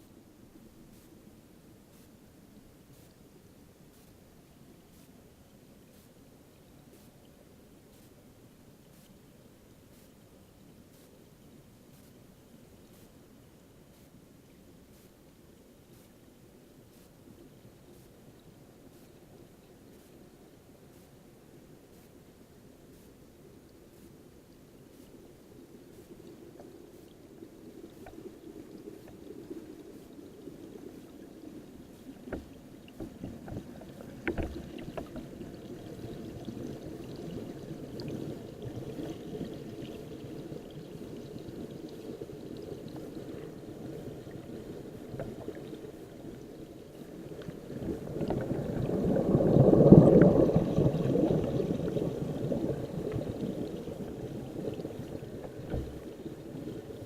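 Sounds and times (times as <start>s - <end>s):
muffled underwater river rush: 0.2s - 57.0s.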